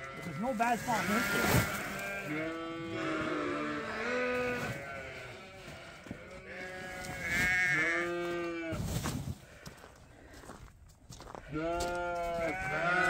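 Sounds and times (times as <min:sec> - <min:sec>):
sheep bleating: 0:00.0 - 0:08.8, 0:11.3 - 0:13.0.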